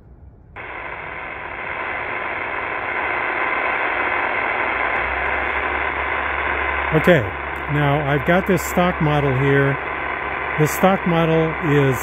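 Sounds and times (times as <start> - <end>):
digital hash noise: 0.6 - 12.0
radio static hiss: 0.6 - 12.0.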